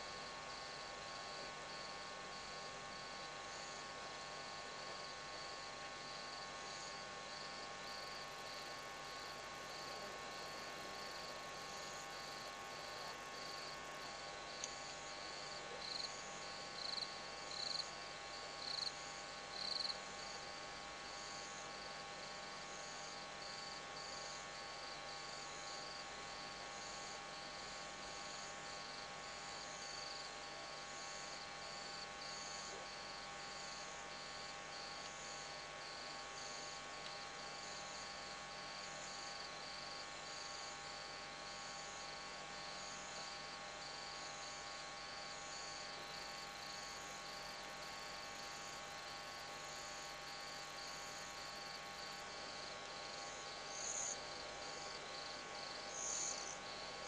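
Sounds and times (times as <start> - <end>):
night insects chirping: 0.1 - 57.0.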